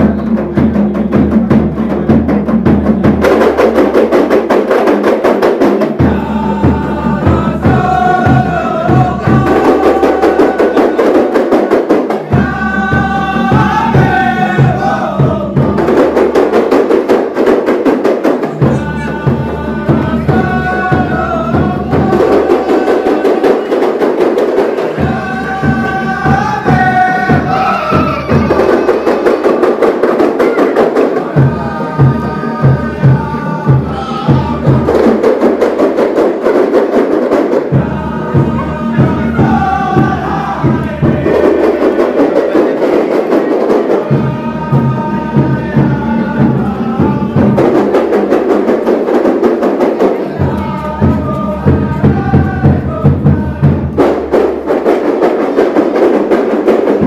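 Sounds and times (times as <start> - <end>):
frame drums beating: 0.0 - 57.0
group chanting: 3.0 - 57.0.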